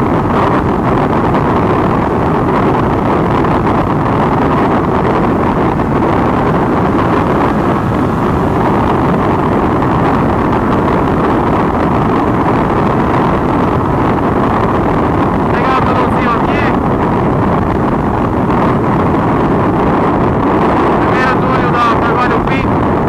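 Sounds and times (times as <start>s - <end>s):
motorcycle engine running: 0.0s - 21.0s
wind rush on microphone: 0.0s - 23.0s.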